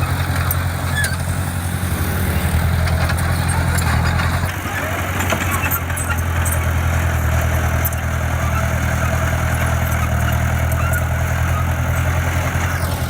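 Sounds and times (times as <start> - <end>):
heavy diesel engine droning: 0.0 - 13.0.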